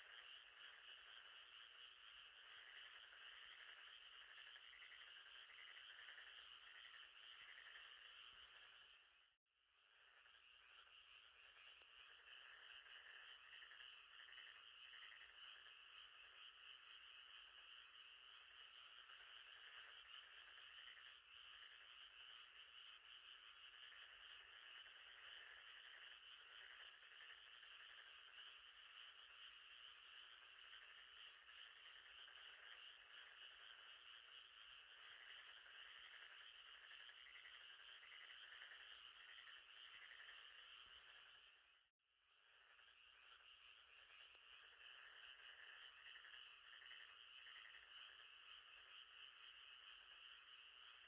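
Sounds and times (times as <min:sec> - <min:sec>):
frogs calling: 0:00.0 - 0:09.3, 0:09.9 - 0:41.8, 0:42.4 - 0:51.0.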